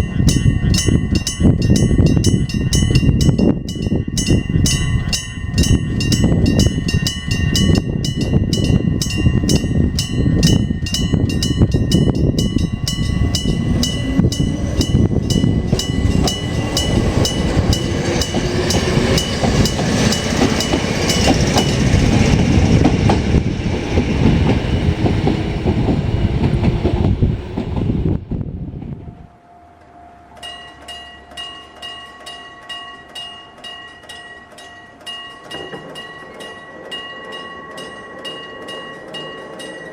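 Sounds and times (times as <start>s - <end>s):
level-crossing bell ringing: 0.0s - 24.8s, 30.4s - 39.9s
train passing rumble: 0.0s - 39.9s.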